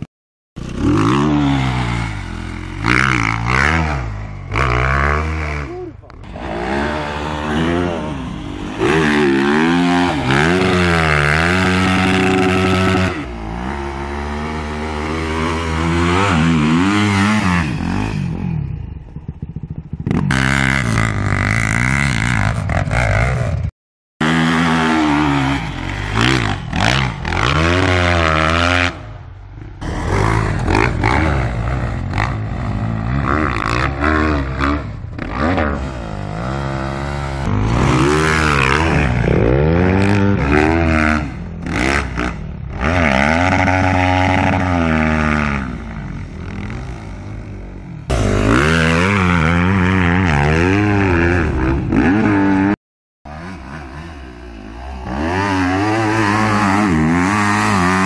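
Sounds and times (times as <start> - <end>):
motocross bike engines revving: 0.6 - 58.0.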